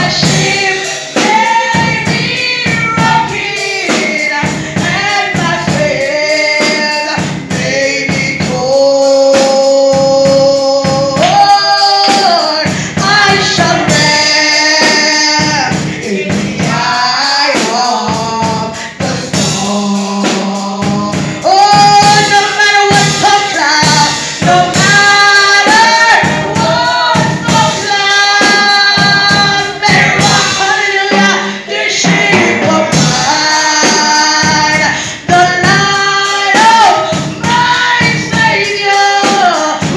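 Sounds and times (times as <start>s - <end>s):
group singing along: 0.0s - 39.9s
rhythmic percussion beat: 0.0s - 39.9s
woman singing into a microphone: 0.0s - 39.9s.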